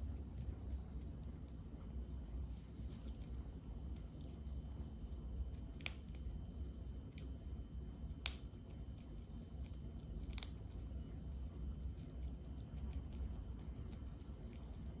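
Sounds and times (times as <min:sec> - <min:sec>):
small animal nibbling clicks: 0:00.0 - 0:07.4, 0:08.0 - 0:15.0
faint low hum: 0:00.0 - 0:15.0.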